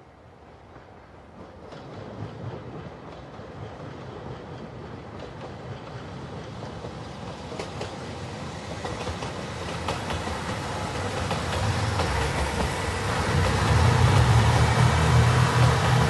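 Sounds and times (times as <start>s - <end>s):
train approaching: 0.0s - 16.0s.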